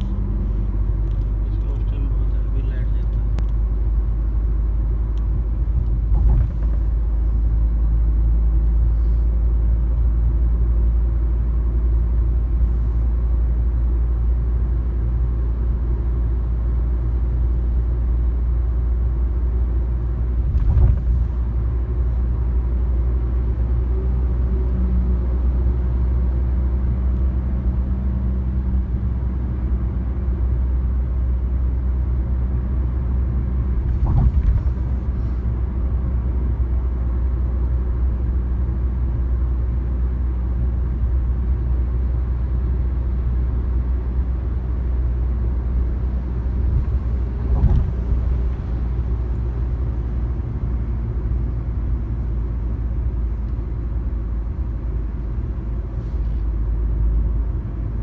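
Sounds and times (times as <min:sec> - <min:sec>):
car cabin engine and tyre rumble: 0:00.0 - 0:58.0.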